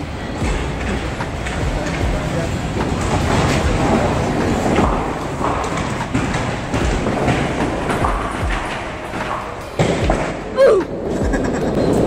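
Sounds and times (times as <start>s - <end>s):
bowling balls rolling on lanes: 0.0s - 12.0s
scattered knocks: 0.4s - 10.5s.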